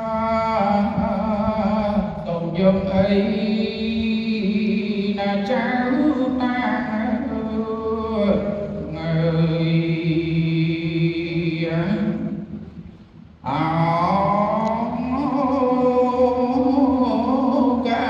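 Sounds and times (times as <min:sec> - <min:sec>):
man chanting into a microphone: 0:00.0 - 0:12.6, 0:13.4 - 0:18.0.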